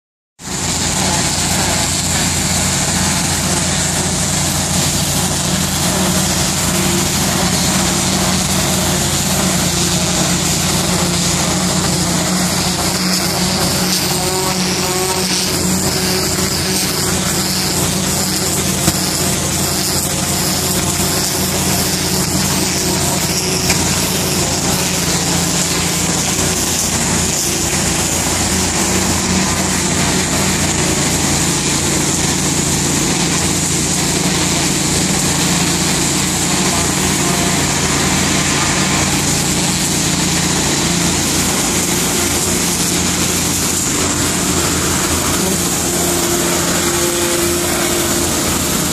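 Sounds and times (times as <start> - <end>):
heavy engine humming: 0.4 - 48.9
loud constant hiss: 0.5 - 48.9.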